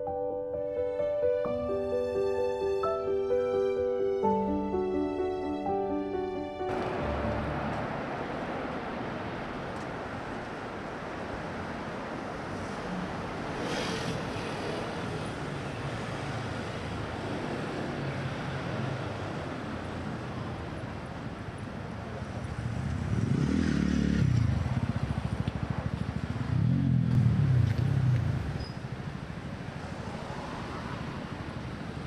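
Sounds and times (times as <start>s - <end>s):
hum of passing cars: 0.8s - 32.0s
vehicles passing close: 5.7s - 32.0s.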